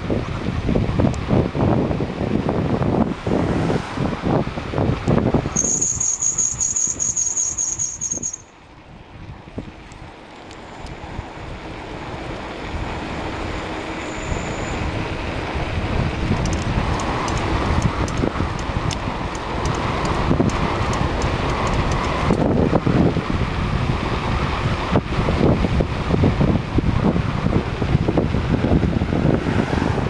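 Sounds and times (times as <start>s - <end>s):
wind buffeting microphone: 0.0s - 6.3s, 6.9s - 30.0s
vehicle road noise: 0.0s - 30.0s.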